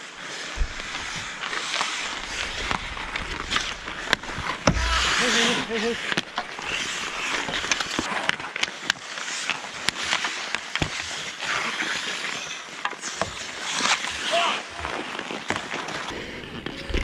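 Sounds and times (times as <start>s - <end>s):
skate blades scraping on ice: 0.0s - 17.0s
hockey sticks and puck clacking: 0.2s - 16.6s.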